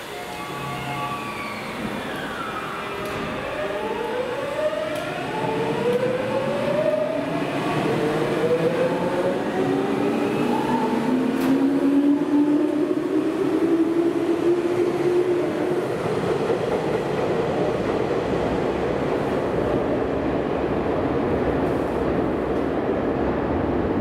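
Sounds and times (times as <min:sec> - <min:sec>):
train rail noise: 0:00.0 - 0:24.0.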